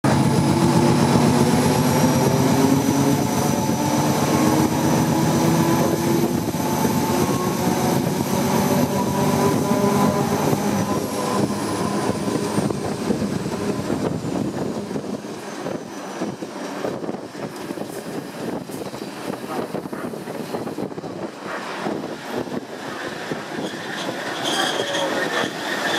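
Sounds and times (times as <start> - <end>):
diesel locomotive engine: 0.0 - 25.9
locomotive rolling on rails: 0.0 - 25.9.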